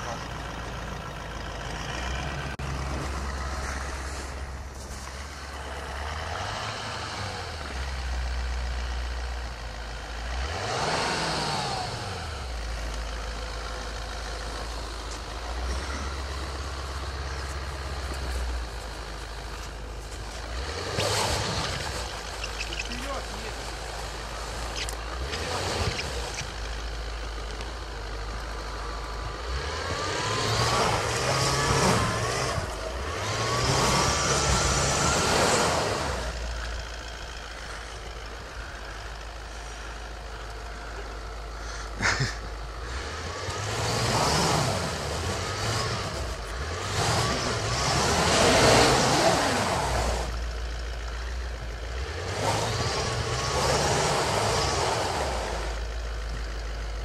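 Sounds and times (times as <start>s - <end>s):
engine revving: 0.0s - 57.0s
wheels spinning in snow: 0.0s - 57.0s.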